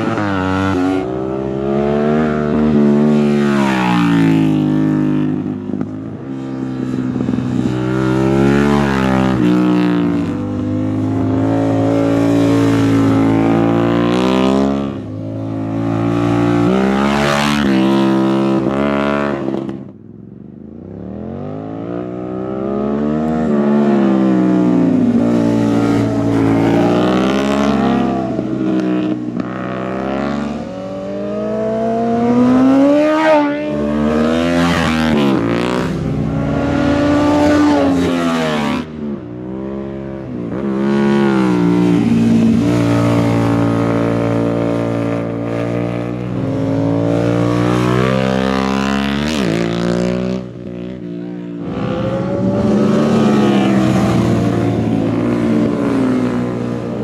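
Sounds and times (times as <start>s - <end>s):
motorcycles revving past: 0.0s - 20.1s, 20.7s - 57.0s.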